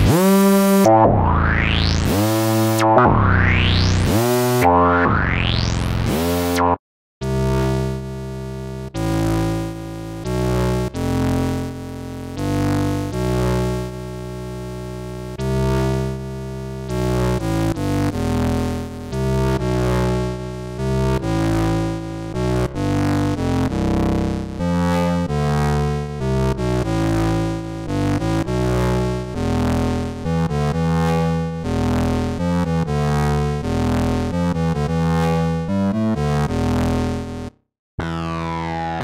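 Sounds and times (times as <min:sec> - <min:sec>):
synthesizer tone with filter sweep: 0:00.0 - 0:06.8, 0:07.4 - 0:39.0
synthesizer held notes and chords: 0:00.0 - 0:39.0.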